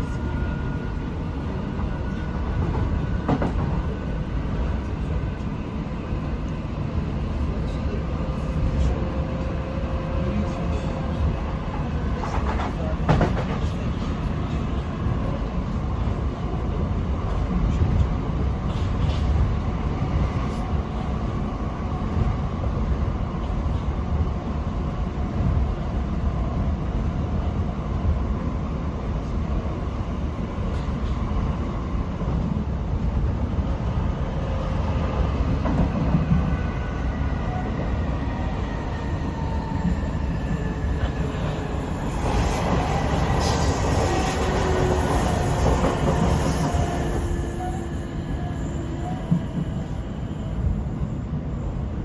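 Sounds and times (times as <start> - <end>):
electric train rumbling on rails: 0.0 - 52.0.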